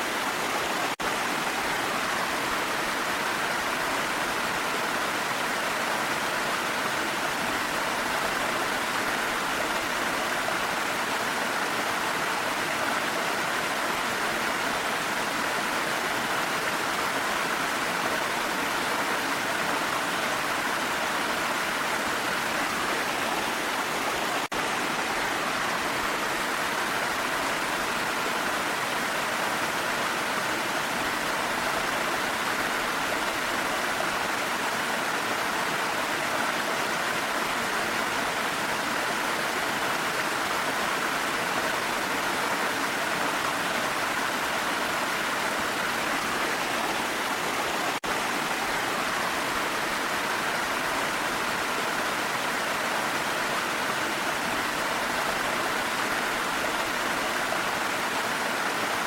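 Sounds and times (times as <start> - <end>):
rain: 0.0 - 59.0
waterfall rushing: 0.0 - 59.0.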